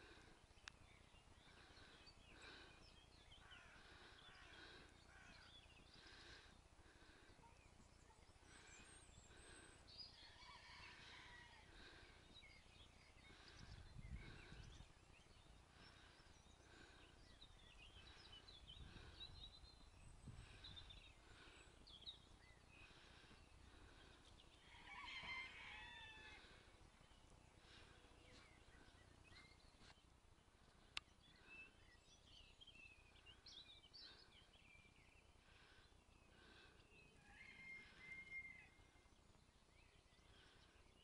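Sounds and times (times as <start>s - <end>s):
small birds singing and calling: 0.0s - 41.0s.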